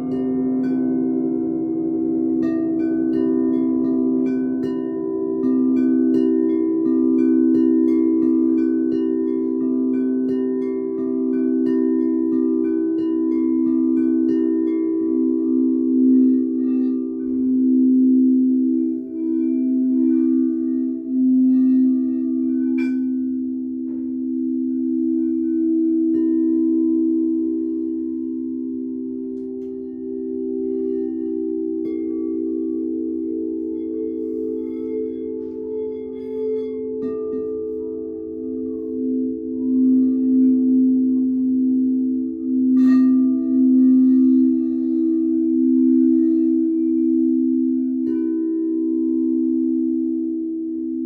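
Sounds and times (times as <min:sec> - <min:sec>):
singing bowls low ringing drone: 0:00.0 - 0:51.0.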